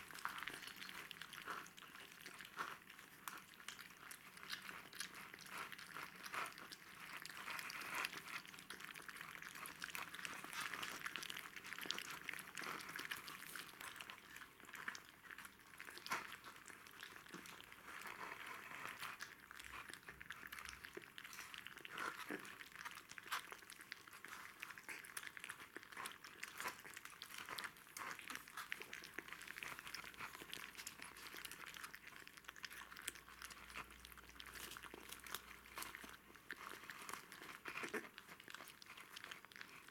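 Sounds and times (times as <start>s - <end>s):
puppies eating with wet smacks: 0.0s - 39.9s.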